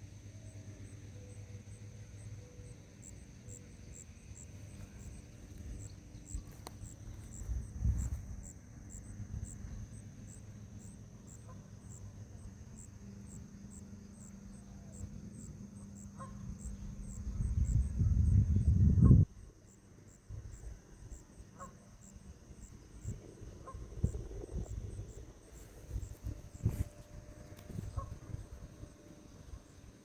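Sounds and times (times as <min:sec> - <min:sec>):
constant high hum: 0:00.0 - 0:30.0
insects chirping: 0:00.0 - 0:30.0.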